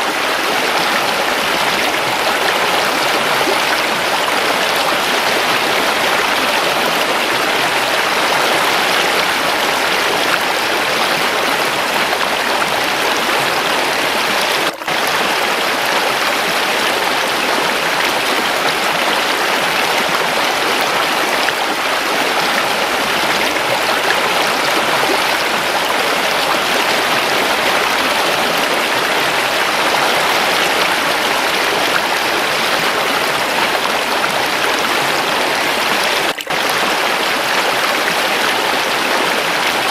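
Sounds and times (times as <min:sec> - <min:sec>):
waterfall running water: 0:00.0 - 0:39.9.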